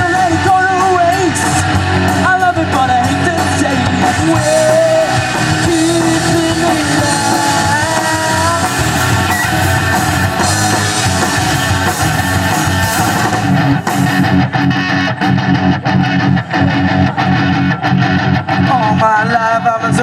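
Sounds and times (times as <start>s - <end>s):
choppy rhythmic guitar riff: 0.0s - 20.0s
live rock band playing: 0.0s - 20.0s.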